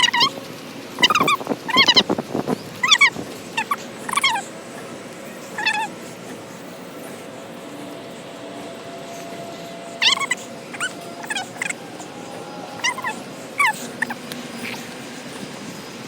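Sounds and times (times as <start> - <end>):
high whining animal calls: 0.0 - 0.4, 1.0 - 15.8.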